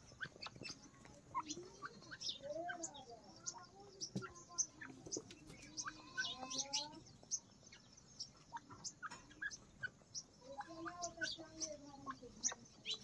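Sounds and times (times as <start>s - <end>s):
high bird chirps: 0.0s - 13.0s
soft low bird calls: 0.0s - 13.0s.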